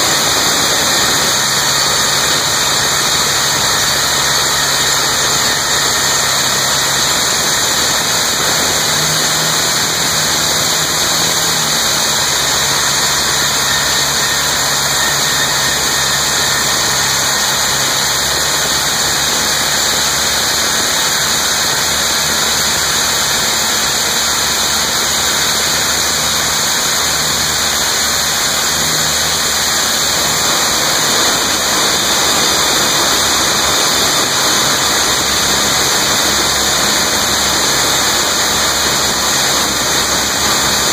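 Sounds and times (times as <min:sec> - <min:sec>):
pneumatic rock drills drilling: 0:00.0 - 0:40.9.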